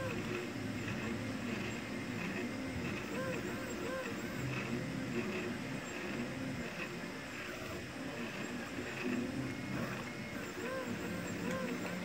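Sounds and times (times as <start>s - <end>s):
steady whirring hiss: 0.0s - 12.0s
stepper motors whining: 0.0s - 12.0s.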